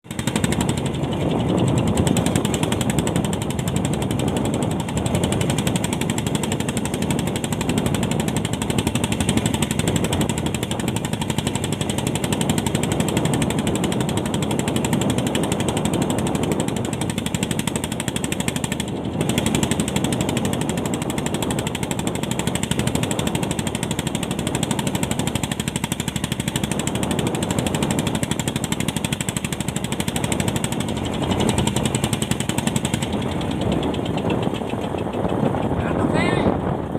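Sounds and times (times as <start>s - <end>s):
boat engine pulsing: 0.0s - 36.9s.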